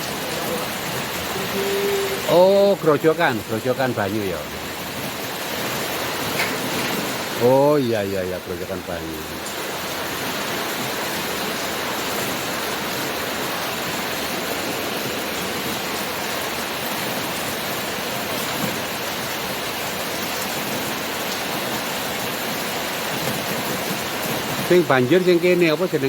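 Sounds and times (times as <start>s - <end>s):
heavy rain falling: 0.0s - 26.0s
rainwater gushing: 0.0s - 26.0s.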